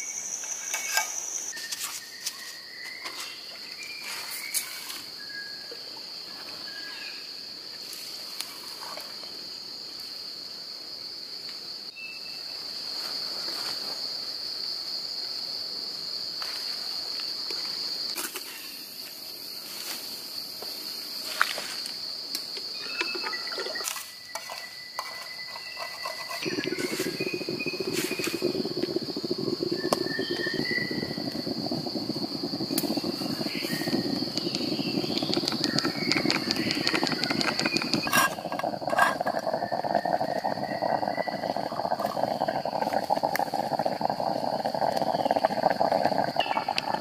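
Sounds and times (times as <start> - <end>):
insects chorus: 0.0 - 47.0.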